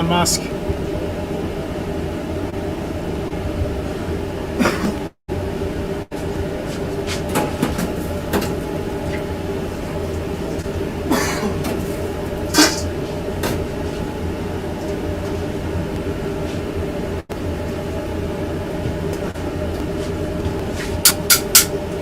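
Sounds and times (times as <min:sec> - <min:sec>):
machine hum and rumble: 0:00.0 - 0:22.0.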